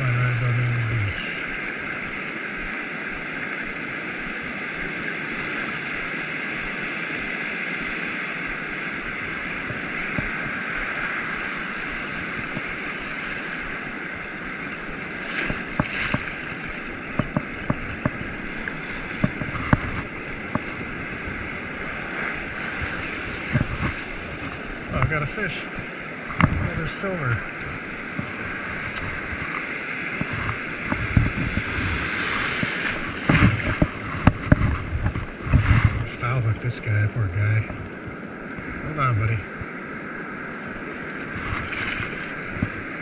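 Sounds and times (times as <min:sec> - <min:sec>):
ocean surf breaking: 0:00.0 - 0:43.0
wind on microphone: 0:00.0 - 0:43.0.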